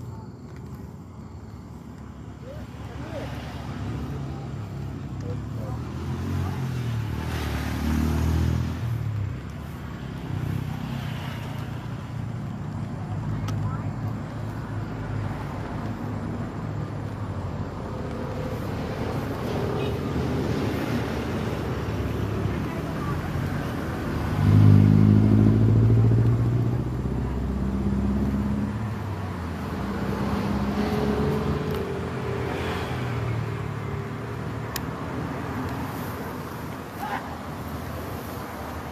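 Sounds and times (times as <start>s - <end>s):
steady road noise: 0.0s - 38.9s
vehicle passing by: 2.2s - 38.9s.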